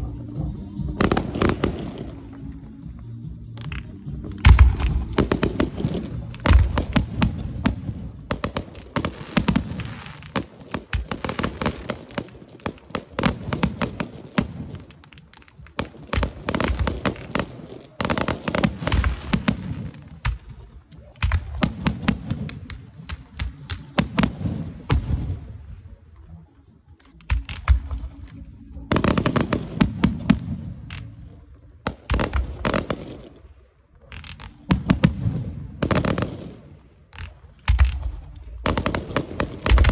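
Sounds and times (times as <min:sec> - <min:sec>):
fireworks booming: 0:01.0 - 0:02.5, 0:03.6 - 0:25.9, 0:28.9 - 0:31.2, 0:31.9 - 0:33.4, 0:34.1 - 0:39.9
fireworks cracking and crackling: 0:01.0 - 0:02.6, 0:03.6 - 0:25.9, 0:27.2 - 0:39.9.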